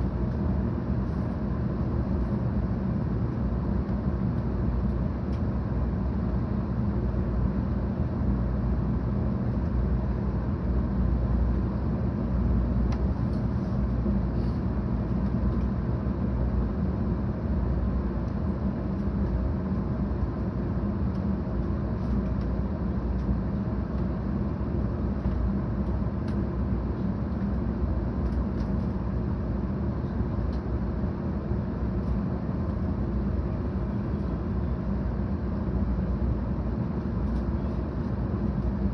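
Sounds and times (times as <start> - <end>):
train interior rumble: 0.0 - 38.9.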